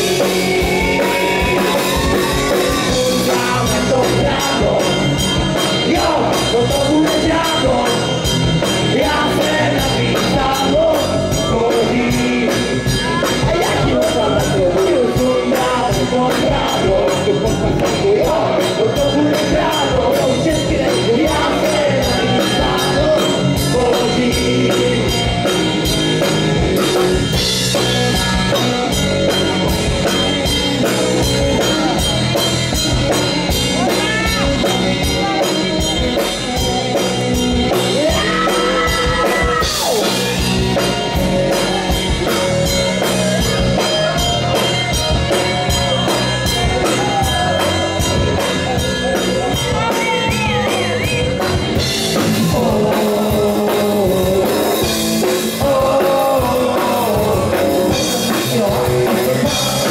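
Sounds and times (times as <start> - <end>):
live rock band: 0.0 - 59.9
man singing: 0.0 - 59.9.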